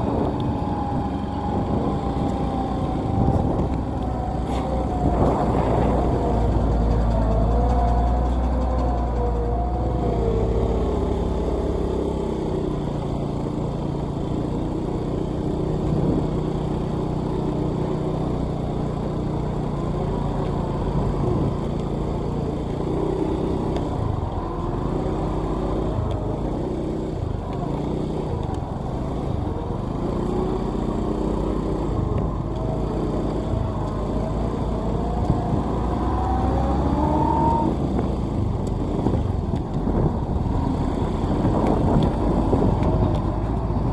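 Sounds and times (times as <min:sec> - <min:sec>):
road traffic: 0:00.0 - 0:43.9
vehicle engine while driving: 0:00.0 - 0:43.9.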